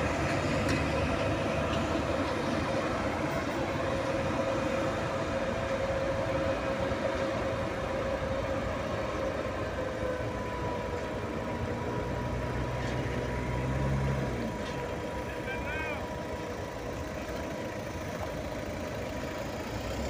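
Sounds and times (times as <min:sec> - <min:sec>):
freight train rumbling: 0:00.0 - 0:20.0.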